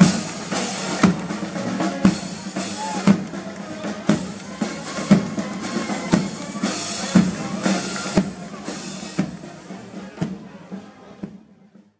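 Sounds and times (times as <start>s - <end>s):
snare drums rattling: 0.0s - 10.5s
marching drums: 0.0s - 11.9s.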